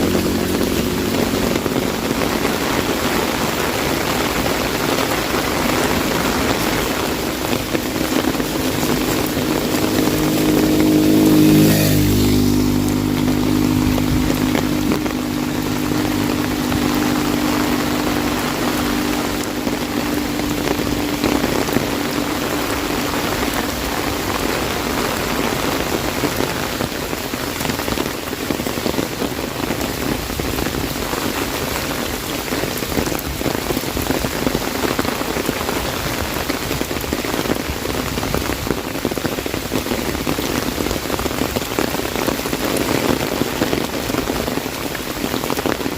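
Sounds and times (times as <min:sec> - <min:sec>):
heavy rain on an umbrella: 0:00.0 - 0:45.9
low engine hum: 0:00.0 - 0:45.9.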